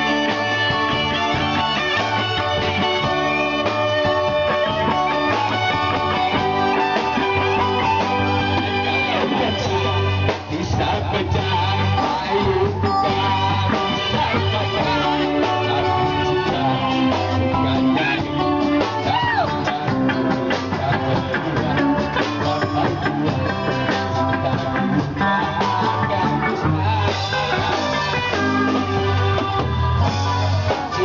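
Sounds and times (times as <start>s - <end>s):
drum kit steady beat: 0.0s - 31.0s
electric guitar: 0.0s - 31.0s
live rock band playing: 0.0s - 31.0s.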